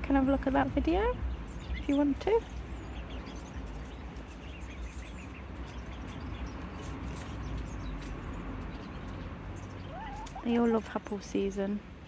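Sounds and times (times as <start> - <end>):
birds chirping: 0.0 - 12.0
steady low rumble: 0.0 - 12.0.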